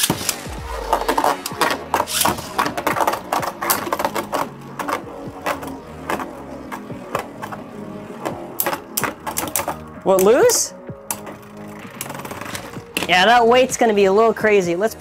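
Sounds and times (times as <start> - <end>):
spinning tops clattering: 0.0 - 12.9.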